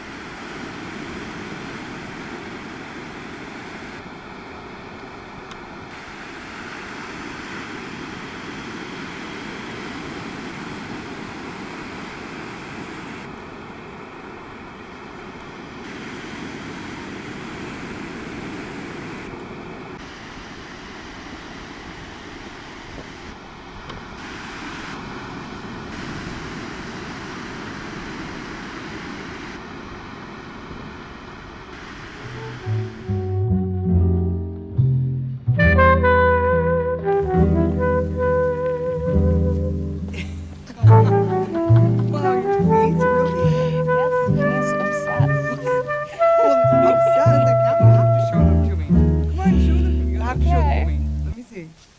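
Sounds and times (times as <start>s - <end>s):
ocean waves breaking on beach: 0.0s - 33.2s, 37.2s - 49.0s.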